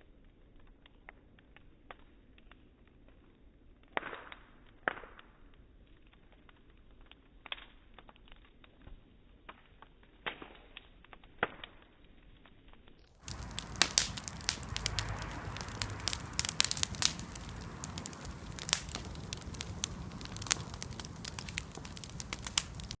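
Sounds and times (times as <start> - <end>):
bonfire crackling and popping: 0.0 - 23.0.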